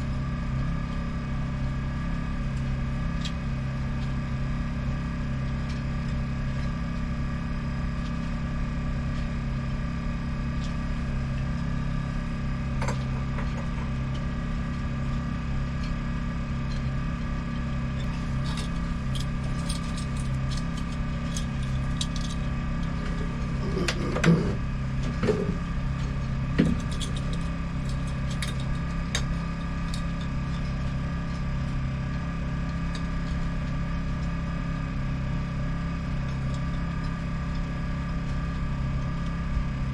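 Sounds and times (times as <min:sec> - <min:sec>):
machine droning: 0:00.0 - 0:39.9.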